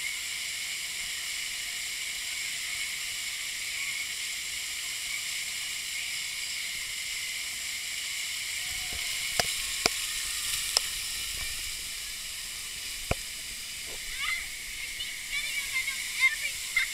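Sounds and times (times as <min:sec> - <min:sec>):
rushing water hiss: 0:00.0 - 0:16.9.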